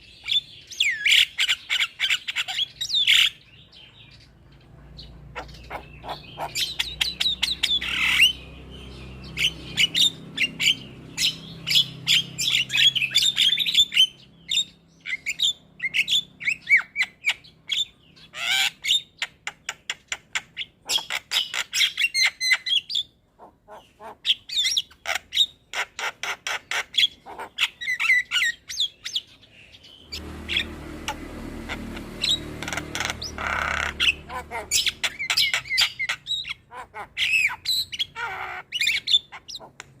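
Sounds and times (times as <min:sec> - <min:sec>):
bird singing and chattering: 0:00.0 - 0:40.0.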